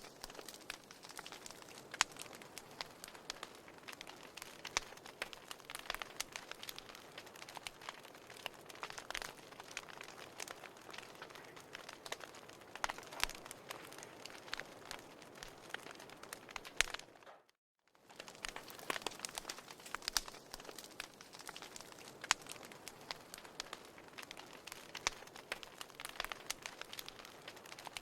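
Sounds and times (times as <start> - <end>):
soft fire hiss: 0.0 - 16.7, 18.1 - 28.0
wood fire crackling: 0.0 - 28.0.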